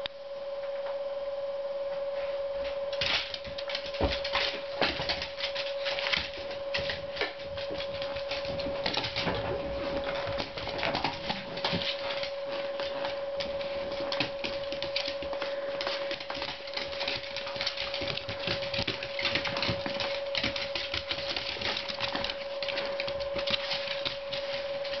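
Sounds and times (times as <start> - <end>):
steady high-pitched hum: 0.0 - 25.0
dogs' claws clicking and tapping: 3.0 - 25.0.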